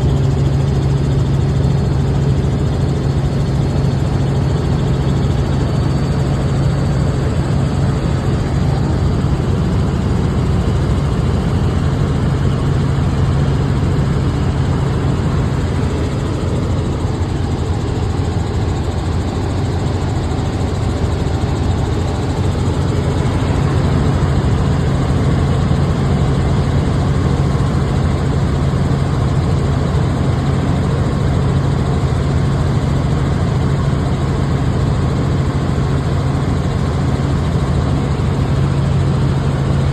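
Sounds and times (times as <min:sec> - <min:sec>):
helicopter drone from inside cabin: 0:00.0 - 0:39.9.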